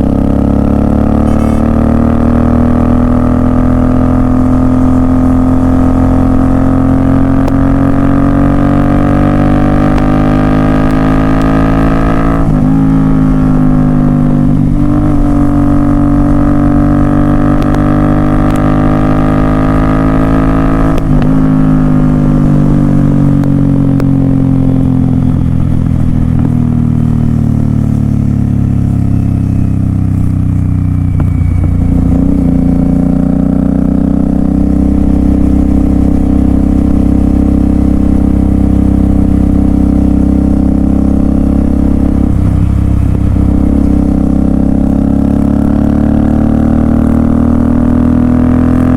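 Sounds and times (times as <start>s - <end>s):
motorcycle exhaust note: 0.0s - 48.9s.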